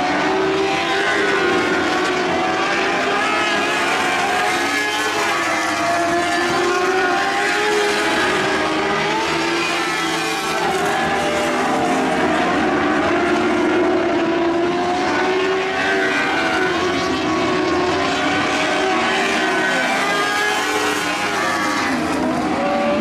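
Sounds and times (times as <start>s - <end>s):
racing car engines at high revs: 0.0s - 23.0s.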